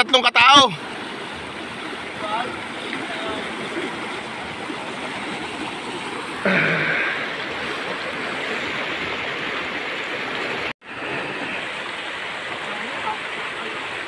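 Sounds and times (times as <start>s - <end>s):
river rushing over stones: 0.5s - 14.0s.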